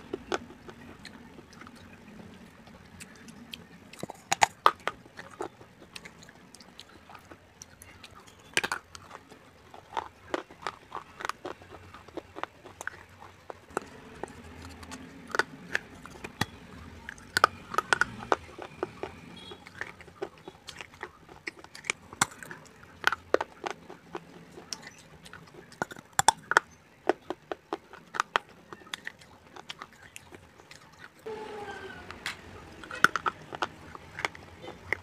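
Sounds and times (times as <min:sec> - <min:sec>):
clay crunching between teeth: 0:00.0 - 0:31.3, 0:32.1 - 0:35.0.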